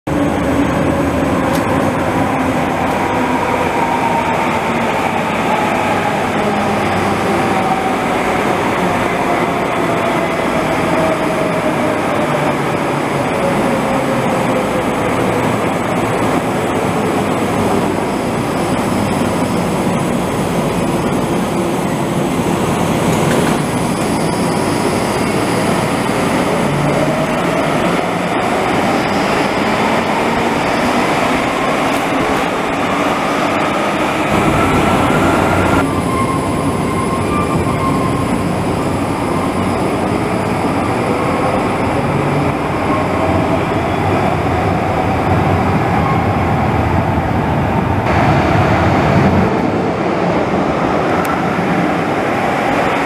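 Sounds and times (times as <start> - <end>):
tram wheels on rails: 0.1 - 53.0.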